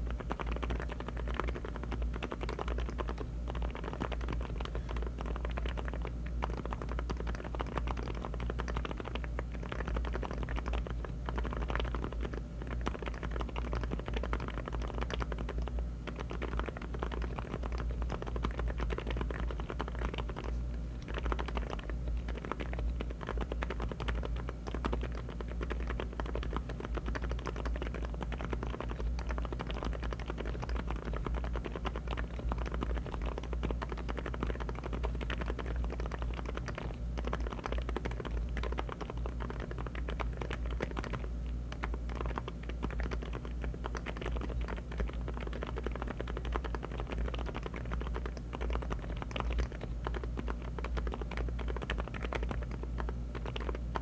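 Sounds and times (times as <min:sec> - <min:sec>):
fast keyboard typing: 0:00.0 - 0:54.0
steady low hum: 0:00.0 - 0:54.0.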